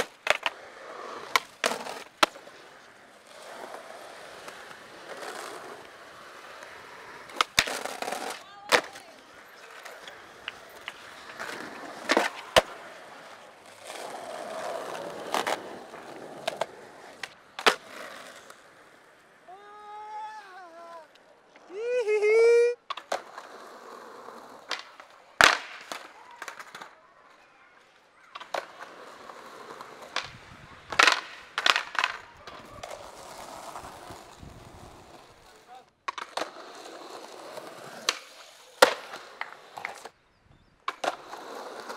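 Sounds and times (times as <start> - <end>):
skateboard clacking on ground: 0.0 - 19.4, 22.8 - 40.2, 40.8 - 41.9
skateboard wheels rolling on pavement: 0.0 - 41.9.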